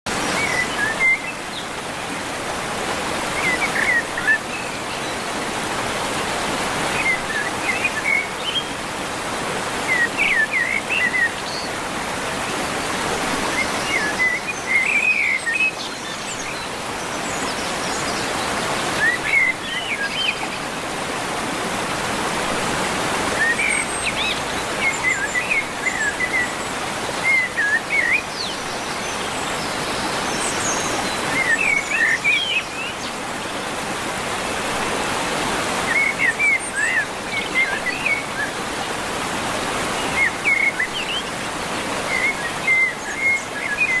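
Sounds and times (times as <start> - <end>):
running water rushing: 0.1 - 44.0.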